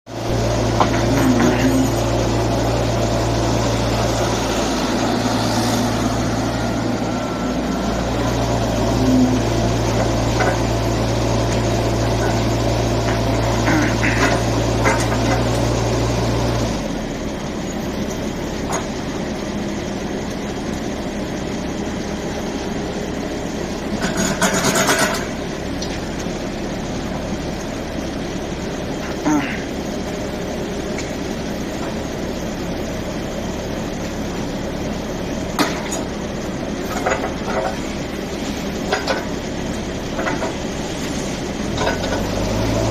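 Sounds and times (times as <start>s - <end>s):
diesel engine running: 0.1s - 42.9s.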